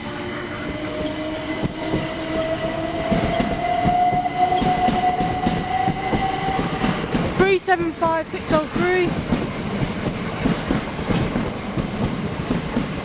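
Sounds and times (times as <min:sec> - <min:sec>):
train motor whine: 0:00.0 - 0:13.0
wheels clicking over rail joints: 0:00.0 - 0:13.0.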